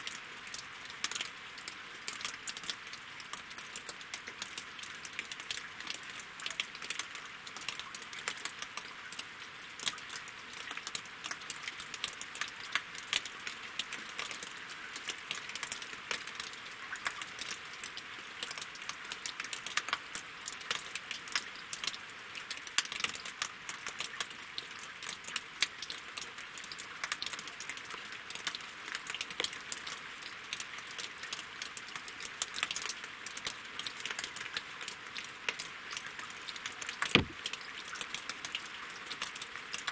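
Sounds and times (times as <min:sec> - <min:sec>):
rain falling on water and logs: 0:00.0 - 0:39.9.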